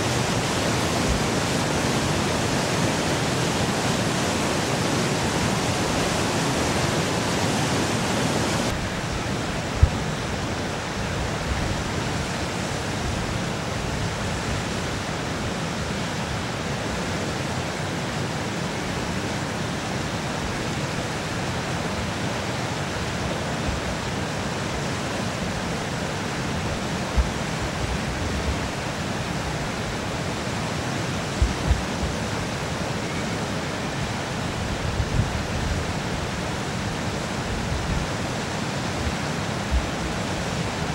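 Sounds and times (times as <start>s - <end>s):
water rushing over dam spillway: 0.0s - 40.9s.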